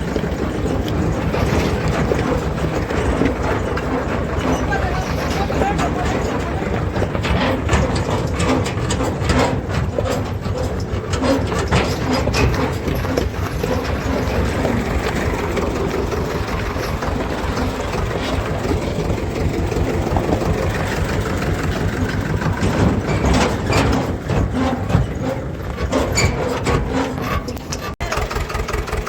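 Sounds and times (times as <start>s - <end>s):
short knocks and rattles: 0.0s - 29.0s
tractor engine running: 0.0s - 29.0s.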